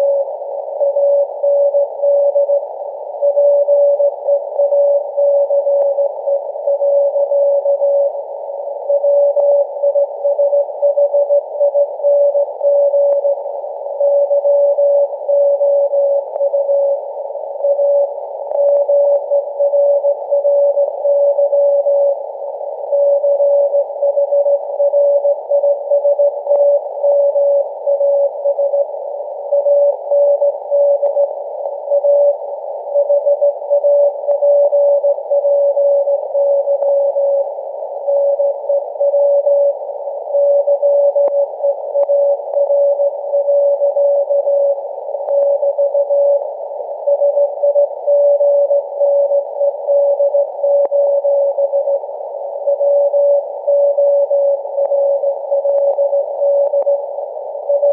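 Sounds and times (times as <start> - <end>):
morse code beeps: 0.0 - 2.6, 3.2 - 8.2, 8.9 - 17.0, 17.6 - 22.2, 22.9 - 28.9, 29.5 - 37.5, 38.1 - 52.0, 52.7 - 57.0
radio static hiss: 0.0 - 57.9.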